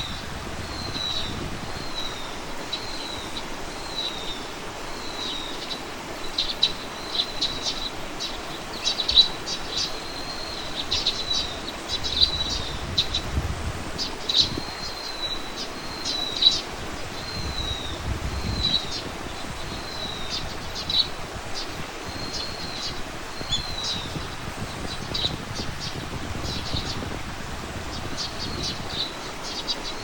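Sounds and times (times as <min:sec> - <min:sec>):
songbirds whistling: 0:00.0 - 0:13.4, 0:14.0 - 0:27.1, 0:27.9 - 0:30.0.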